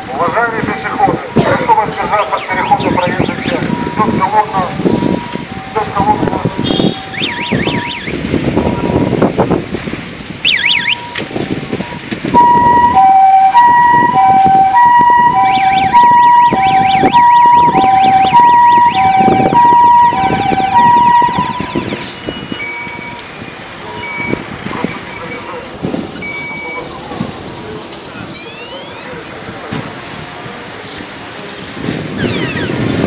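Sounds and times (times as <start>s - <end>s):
police siren: 0.0s - 9.2s, 10.4s - 27.1s, 28.2s - 30.8s, 32.1s - 33.0s.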